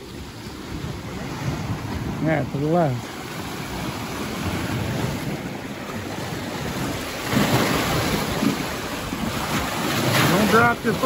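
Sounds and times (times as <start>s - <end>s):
waves splashing against rocks: 0.0s - 11.0s.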